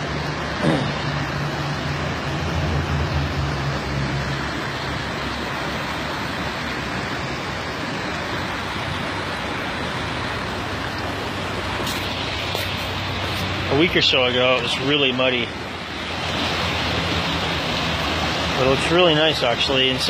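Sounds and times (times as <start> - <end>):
highway traffic roar: 0.0 - 20.0
low drone: 0.0 - 20.0.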